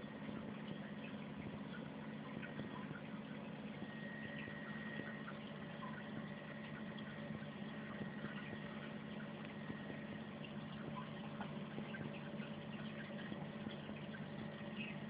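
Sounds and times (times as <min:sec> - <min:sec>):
aquarium pump hum: 0:00.0 - 0:15.0
small irregular ticks: 0:00.0 - 0:15.0
water trickling and bubbling: 0:00.0 - 0:15.0.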